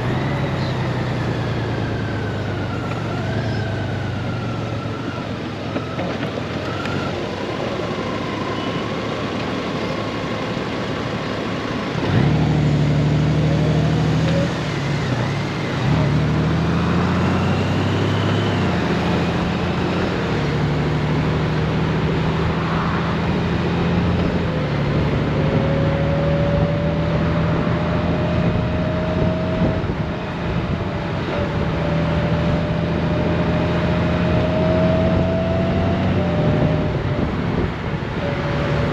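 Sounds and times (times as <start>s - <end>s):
motorcycle engine: 0.0s - 38.9s
road noise rushing: 0.0s - 38.9s.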